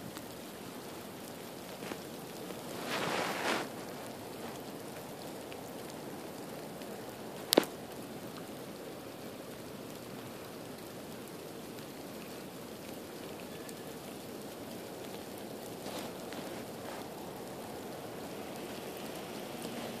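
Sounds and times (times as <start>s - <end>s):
ice pellets and rain falling: 0.0s - 20.0s.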